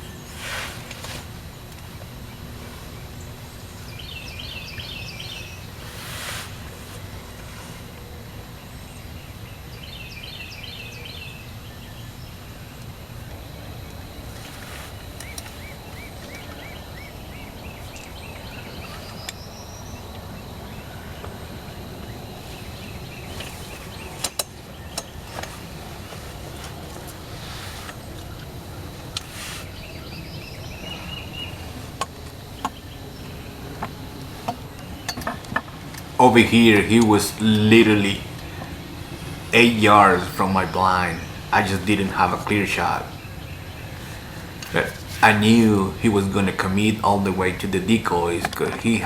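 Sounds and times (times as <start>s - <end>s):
low outdoor rumble: 0.0s - 49.0s
songbirds singing: 0.0s - 49.0s.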